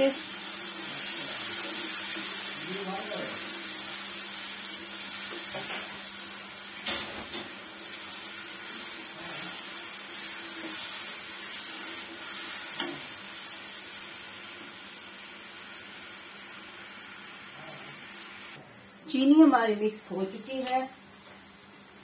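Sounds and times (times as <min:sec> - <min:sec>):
syrup sizzling: 0:00.0 - 0:19.7.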